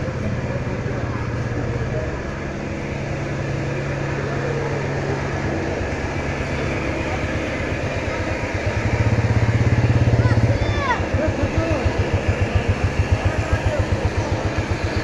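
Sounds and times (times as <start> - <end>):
motorcycle engine throbbing: 0.0 - 15.0.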